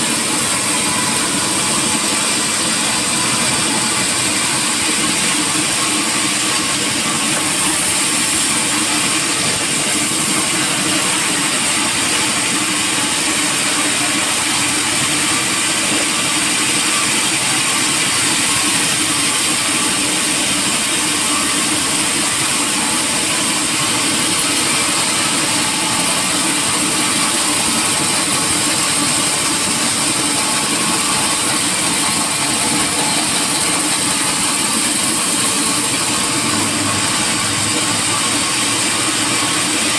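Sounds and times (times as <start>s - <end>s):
sawmill machinery whine: 0.0s - 39.9s.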